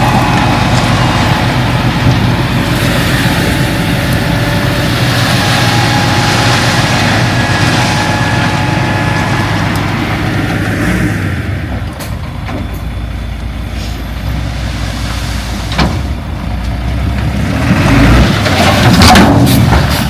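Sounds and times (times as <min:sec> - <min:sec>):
heavy diesel engine rumbling: 0:00.0 - 0:20.0.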